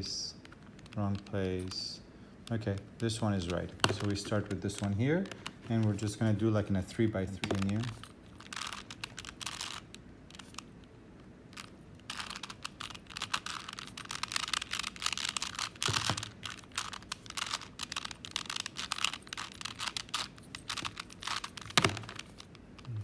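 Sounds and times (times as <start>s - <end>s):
puzzle cube plastic clicks: 0.4s - 22.9s.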